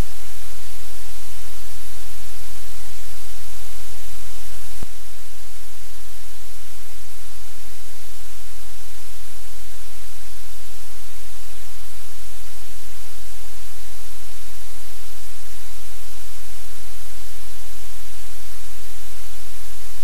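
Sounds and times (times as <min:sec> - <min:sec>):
loud static hiss: 0:00.0 - 0:20.0
low electrical hum: 0:00.0 - 0:20.0.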